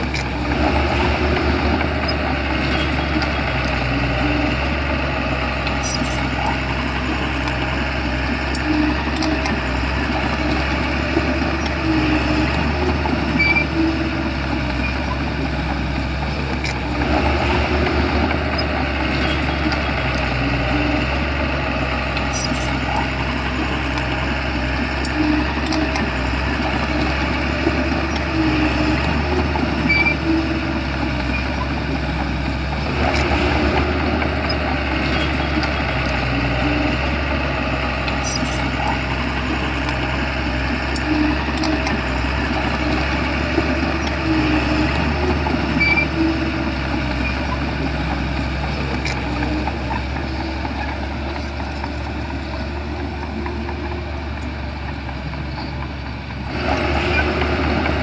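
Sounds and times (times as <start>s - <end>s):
bulldozer diesel engine humming: 0.0s - 58.0s.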